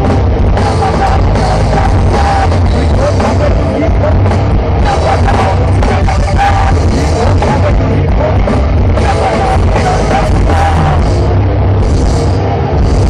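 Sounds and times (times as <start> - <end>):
grindcore band playing live: 0.0 - 13.0.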